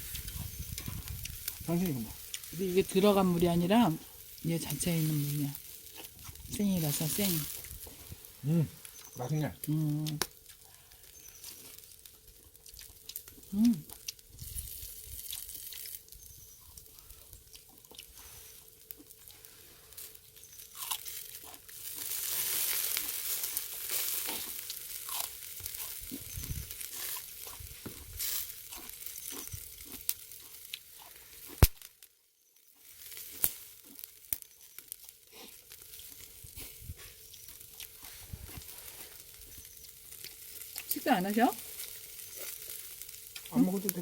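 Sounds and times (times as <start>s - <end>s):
crunchy food being chewed: 0.0s - 32.0s, 32.6s - 44.0s
pork sizzling on a grill: 0.0s - 44.0s.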